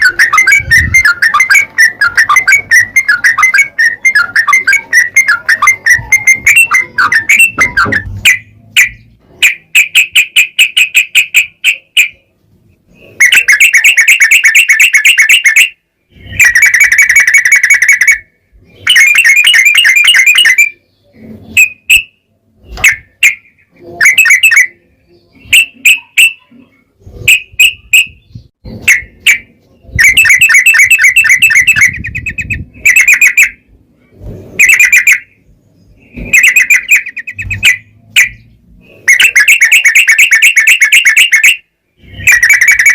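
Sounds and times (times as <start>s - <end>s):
bird singing chattering trills: 0.0s - 33.7s, 34.6s - 42.9s.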